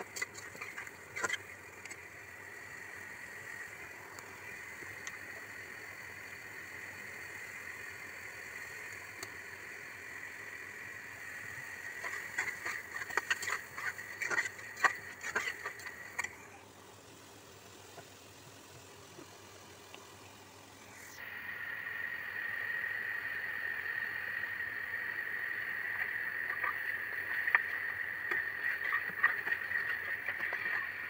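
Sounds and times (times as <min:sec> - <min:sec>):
curry simmering hiss: 0:00.0 - 0:31.0.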